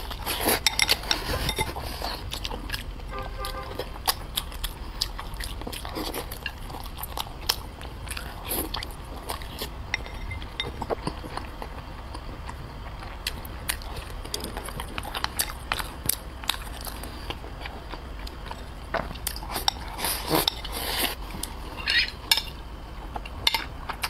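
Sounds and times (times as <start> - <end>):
wet chewing mouth sounds: 0.0 - 22.2.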